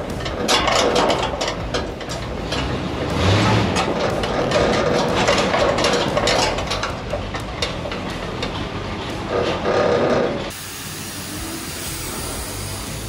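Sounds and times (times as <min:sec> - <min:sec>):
truck clattering and rattling: 0:00.0 - 0:10.5.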